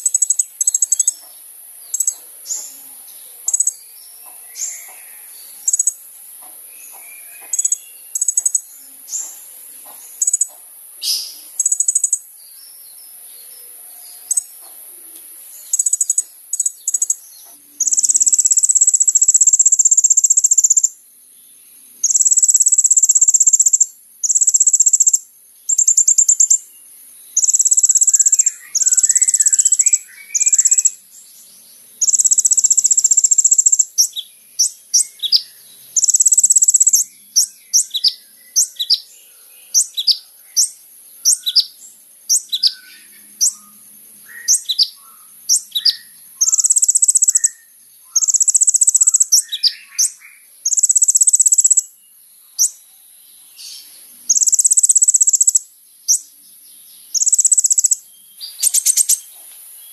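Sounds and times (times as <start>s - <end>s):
bird chirping and trilling: 0.0s - 6.1s, 6.7s - 21.0s, 21.8s - 59.9s.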